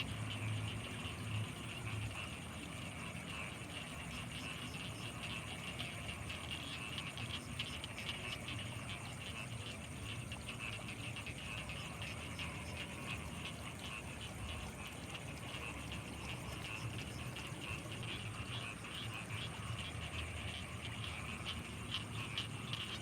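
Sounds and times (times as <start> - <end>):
frogs calling: 0.0 - 23.0.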